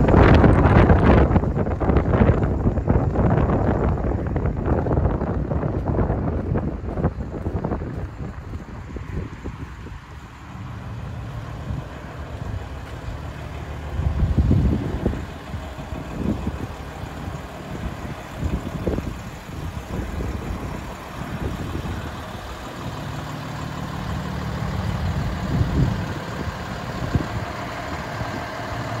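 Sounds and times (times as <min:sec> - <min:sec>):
diesel engine idling: 0:00.0 - 0:29.0
wind buffeting microphone: 0:00.0 - 0:29.0.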